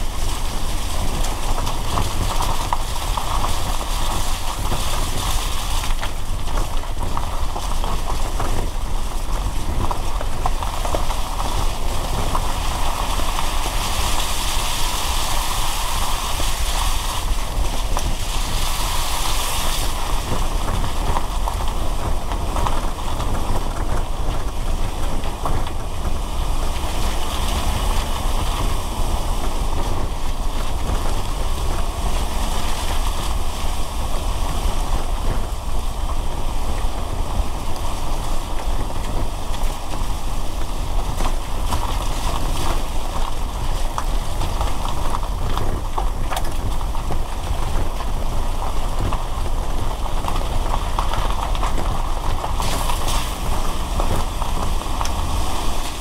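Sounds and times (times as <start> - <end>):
car driving on wet road: 0.0 - 56.0
rain ticking on car: 0.0 - 56.0.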